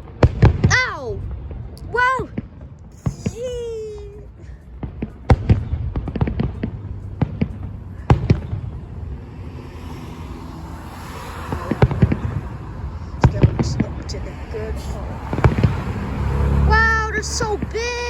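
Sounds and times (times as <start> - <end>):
fireworks bangs and pops: 0.0 - 10.2, 10.9 - 14.3, 15.2 - 18.0
fireworks crackling: 0.0 - 18.0.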